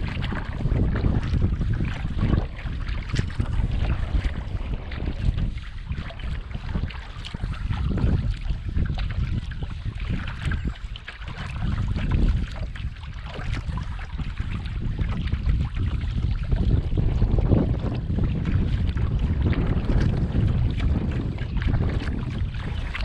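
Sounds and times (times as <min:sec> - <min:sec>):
water splashing and trickling: 0:00.0 - 0:23.0
wind buffeting microphone: 0:00.0 - 0:23.0.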